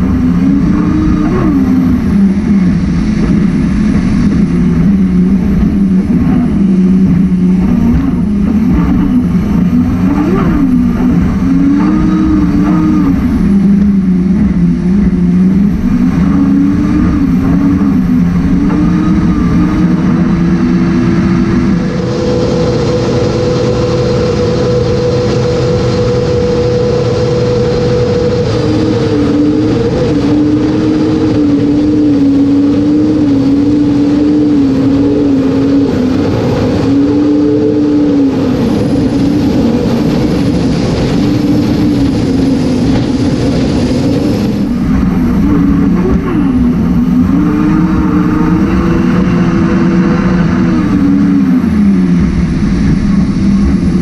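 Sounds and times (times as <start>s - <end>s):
jet boat engine running hard: 0.0s - 54.0s
rushing water noise: 0.0s - 54.0s.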